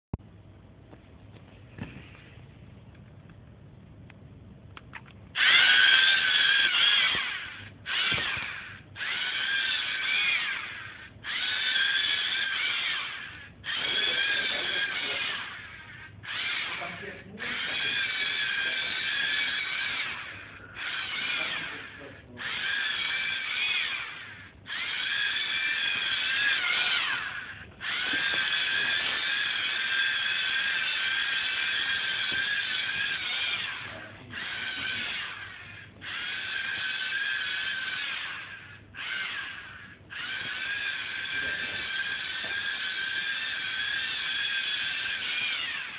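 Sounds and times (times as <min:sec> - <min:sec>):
servo motors whining: 0:05.4 - 0:45.9.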